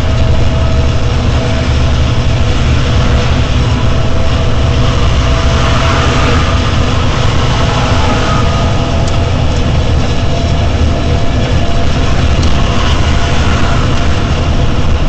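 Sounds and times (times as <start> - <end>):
road hiss: 0.0 - 15.0
truck engine drone: 0.0 - 15.0.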